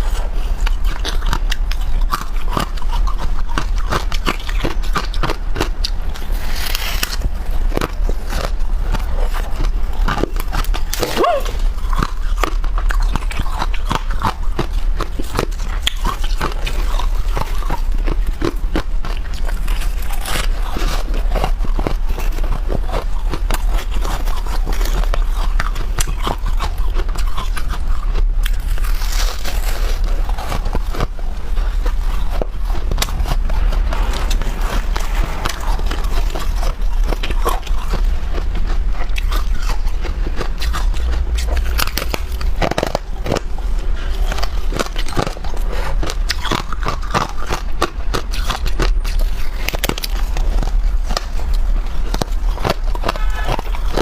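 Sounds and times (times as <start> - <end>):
chewing crunchy frost: 0.0 - 54.0
low hum: 0.0 - 54.0.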